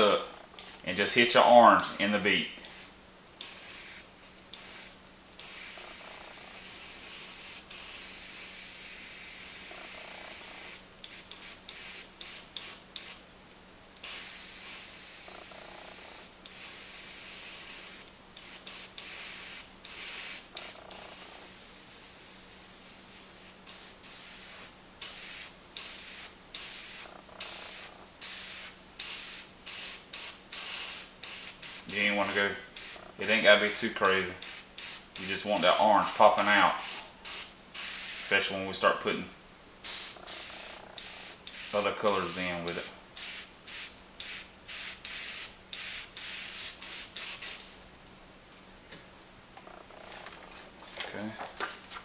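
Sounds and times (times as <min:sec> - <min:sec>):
airbrush hissing: 0:00.6 - 0:13.2, 0:14.0 - 0:38.5, 0:39.8 - 0:47.7.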